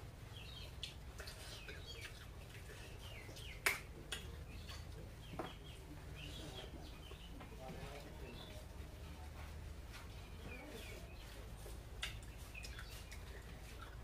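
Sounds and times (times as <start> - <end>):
birds chirping: 0.0 - 9.3, 10.0 - 14.0.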